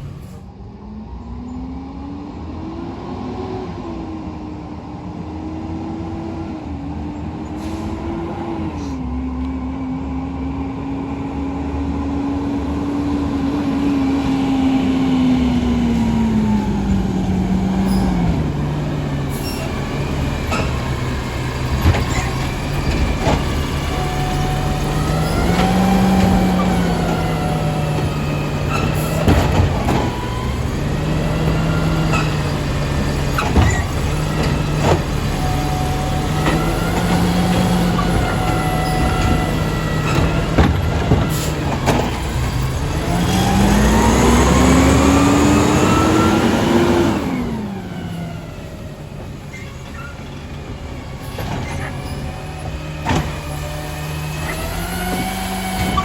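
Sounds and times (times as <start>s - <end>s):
garbage truck engine humming: 0.0s - 1.4s, 5.1s - 56.0s.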